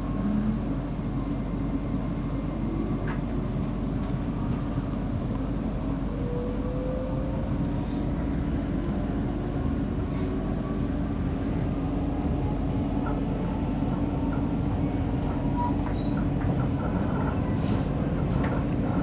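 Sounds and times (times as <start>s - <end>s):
constant low hum: 0.0s - 19.0s
train wheels rumbling on rail: 0.0s - 19.0s.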